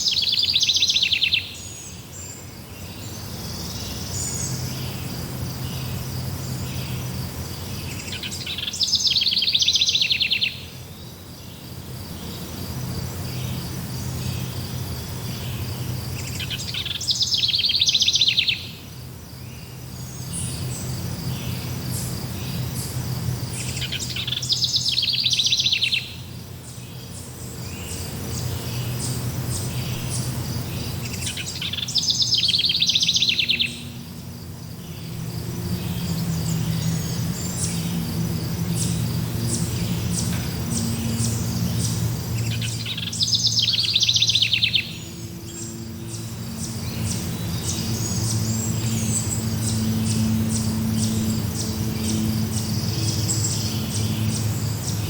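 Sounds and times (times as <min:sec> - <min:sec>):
high insect trill: 0:00.0 - 0:55.0
loud rapid bird trill: 0:00.0 - 0:55.0.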